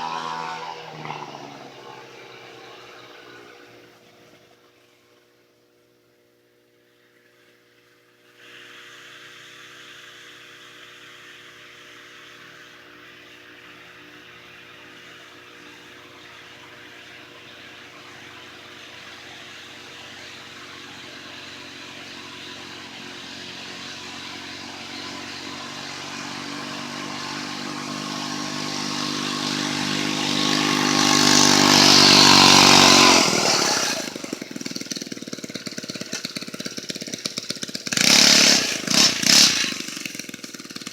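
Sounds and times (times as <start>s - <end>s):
mini bike engine passing: 0.0s - 5.3s, 8.3s - 40.9s.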